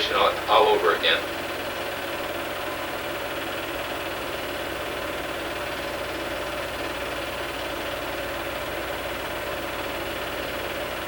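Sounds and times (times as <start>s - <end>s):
film projector whirring: 0.0s - 11.0s.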